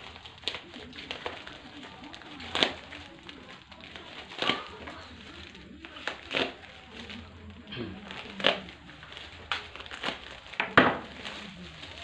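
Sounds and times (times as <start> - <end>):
plastic wrapping crinkling and tearing: 0.0 - 12.0.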